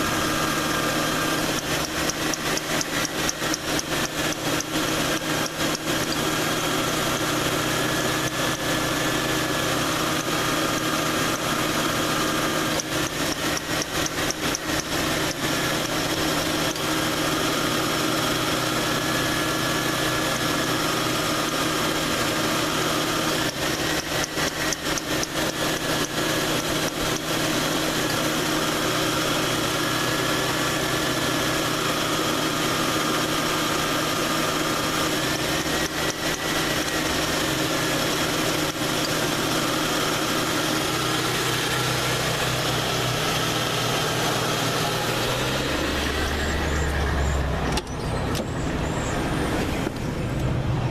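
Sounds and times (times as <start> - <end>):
compressor clutch cycling: 0.0 - 50.8
car engine idling: 0.0 - 50.9.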